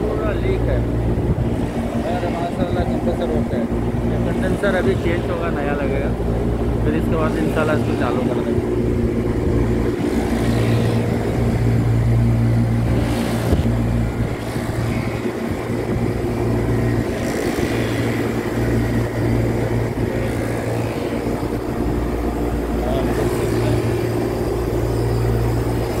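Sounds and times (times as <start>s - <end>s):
chiller units humming: 0.0s - 26.0s.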